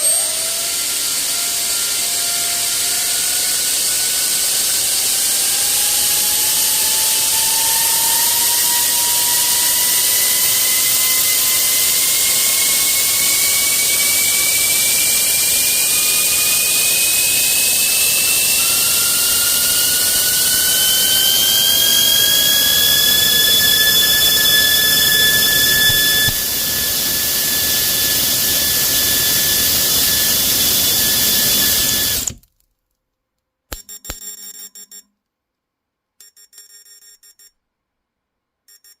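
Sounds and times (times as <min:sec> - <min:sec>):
electric motor whining: 0:00.0 - 0:32.4.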